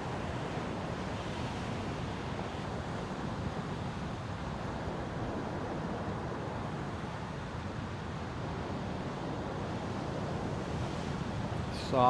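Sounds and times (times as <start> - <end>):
ocean surf: 0.0 - 12.0
wind rumbling on microphone: 0.0 - 12.0.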